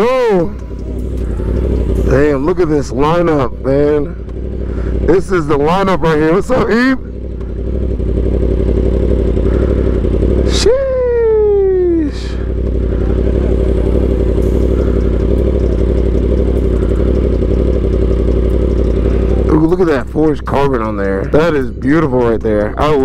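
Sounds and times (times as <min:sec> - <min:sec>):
motorcycle engine running: 0:00.0 - 0:23.0
motorcycle throttle blip: 0:00.2 - 0:05.1, 0:07.0 - 0:10.5, 0:12.5 - 0:23.0.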